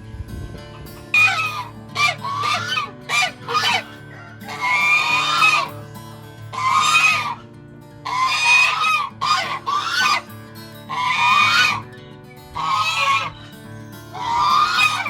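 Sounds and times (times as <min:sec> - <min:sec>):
poultry calling: 0:00.8 - 0:15.0.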